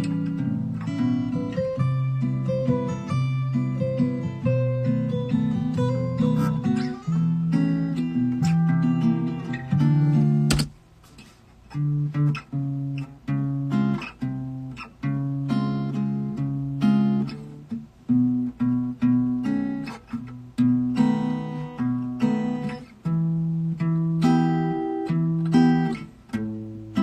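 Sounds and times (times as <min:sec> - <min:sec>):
acoustic guitar strummed chords: 0:00.0 - 0:27.0.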